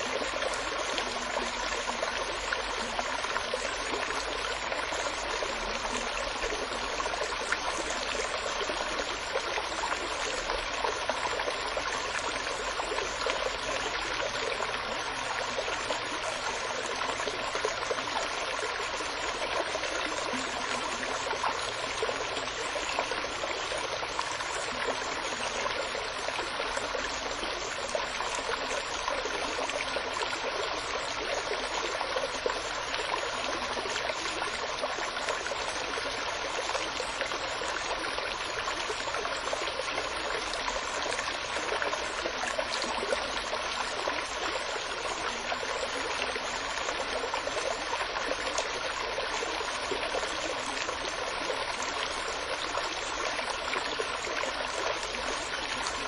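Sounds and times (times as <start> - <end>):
babbling stream: 0.0 - 56.0.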